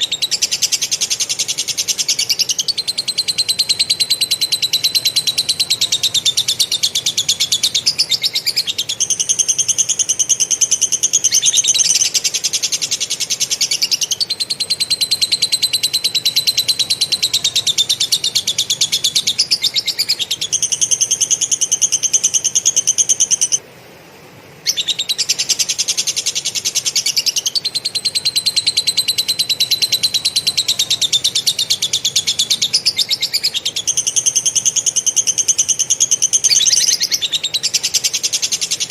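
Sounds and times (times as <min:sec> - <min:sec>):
bird singing rapid stuttering notes: 0:00.0 - 0:23.6, 0:24.6 - 0:38.9.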